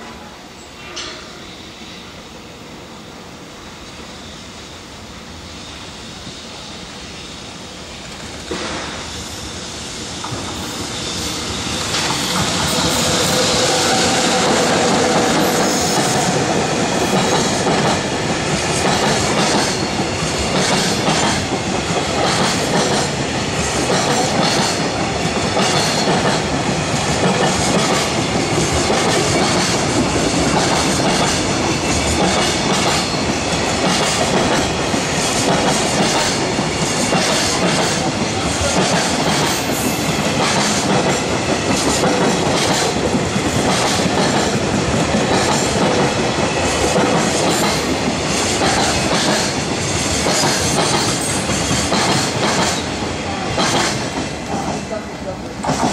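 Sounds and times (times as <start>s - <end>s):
train wheels clacking over rail joints: 10.2s - 55.9s.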